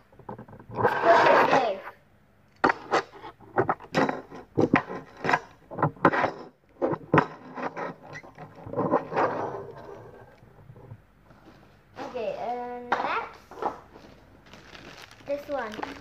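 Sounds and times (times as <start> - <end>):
plastic toy scraping: 0.3 - 1.9, 2.7 - 12.4, 13.5 - 16.0.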